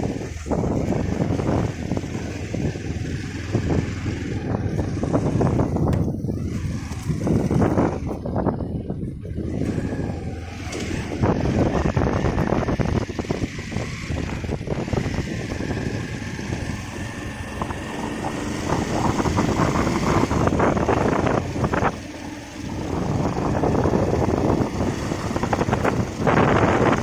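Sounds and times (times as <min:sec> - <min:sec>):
motorcycle engine: 0:00.0 - 0:27.0
road noise: 0:00.0 - 0:27.0
wind buffeting microphone: 0:00.0 - 0:27.0.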